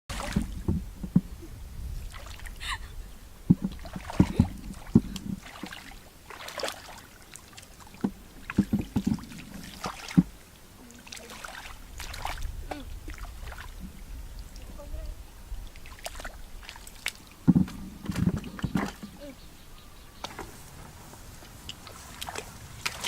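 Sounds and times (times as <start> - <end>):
water splashing and sloshing: 0.1 - 19.4, 20.0 - 23.0.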